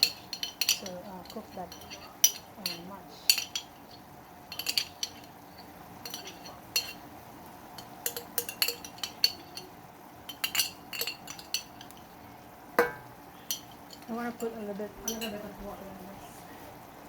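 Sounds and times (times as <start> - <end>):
utensil clinking against a pan: 0.0 - 16.0.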